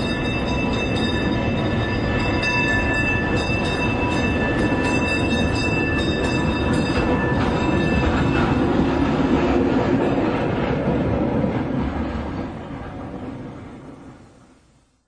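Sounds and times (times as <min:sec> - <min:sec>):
wheels clicking over rail joints: 0:00.0 - 0:12.4
high whine of tram: 0:00.0 - 0:14.9
tram rumble: 0:00.0 - 0:14.9.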